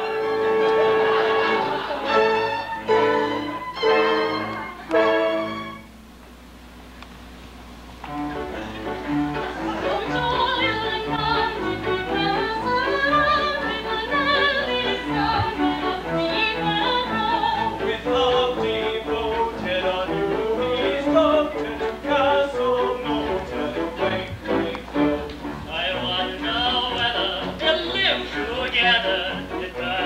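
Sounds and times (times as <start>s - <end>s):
operetta ensemble singing: 0.0s - 5.8s, 8.3s - 30.0s
small pit orchestra: 0.0s - 6.0s, 8.0s - 30.0s.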